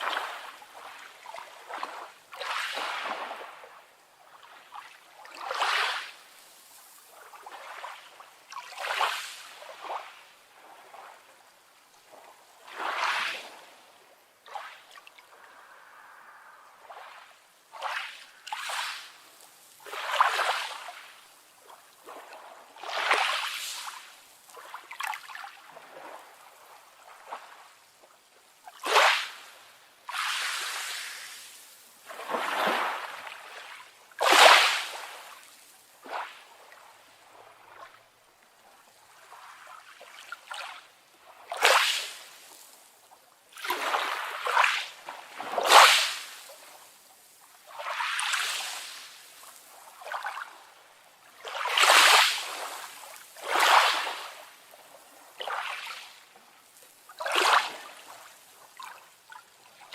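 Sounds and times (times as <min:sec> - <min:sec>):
small waves splashing and lapping: 0:00.0 - 0:59.9.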